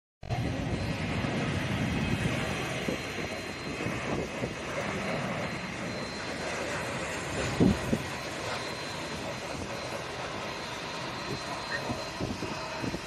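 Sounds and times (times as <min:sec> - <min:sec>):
faint high whine: 0:00.2 - 0:13.0
jet engines rushing: 0:00.2 - 0:13.0.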